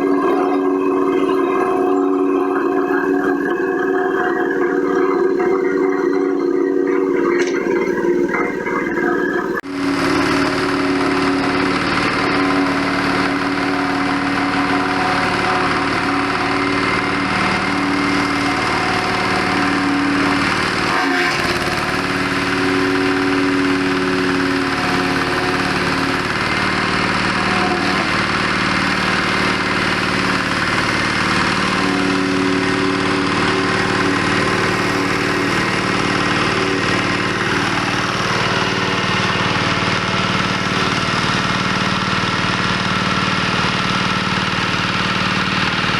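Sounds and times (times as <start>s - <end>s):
wood chipper running: 0.0s - 45.9s.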